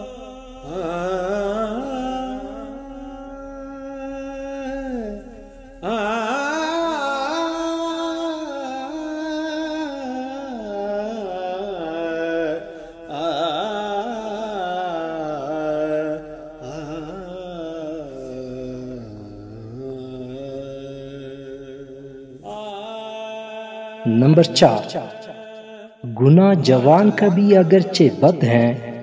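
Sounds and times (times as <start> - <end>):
person chanting: 0.0 - 29.0.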